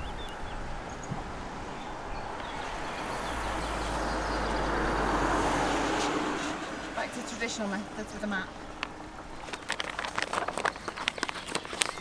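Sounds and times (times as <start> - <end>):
car approaching: 0.0 - 12.0.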